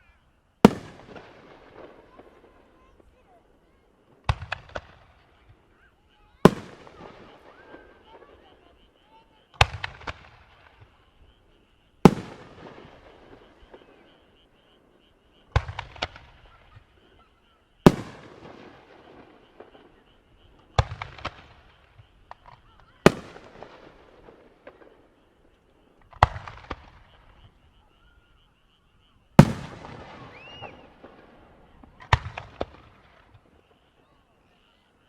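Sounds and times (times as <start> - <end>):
fireworks bangs: 0.0 - 28.4, 29.0 - 34.9
fireworks crackle and echo: 0.0 - 35.0.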